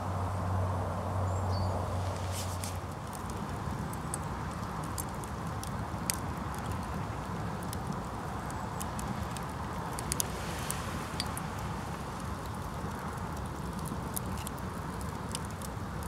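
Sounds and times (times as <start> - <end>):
campfire crackling: 2.0 - 16.0.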